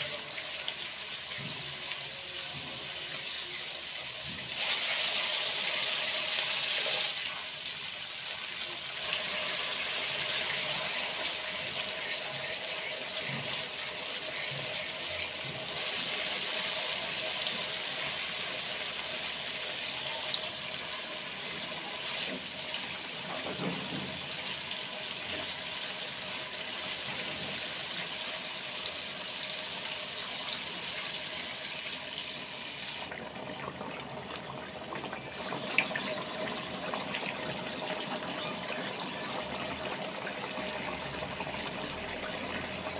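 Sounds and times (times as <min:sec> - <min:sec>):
curry sizzling and bubbling: 0:00.0 - 0:42.9.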